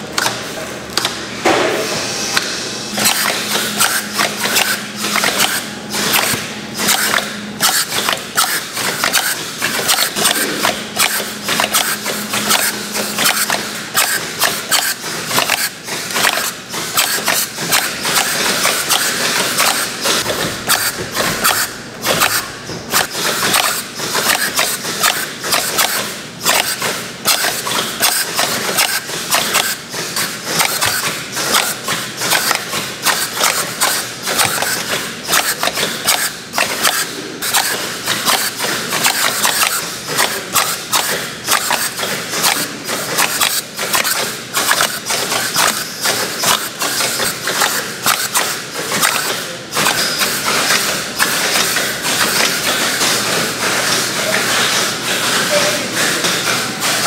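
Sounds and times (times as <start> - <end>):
machinery clattering and rattling: 2.9 - 57.0.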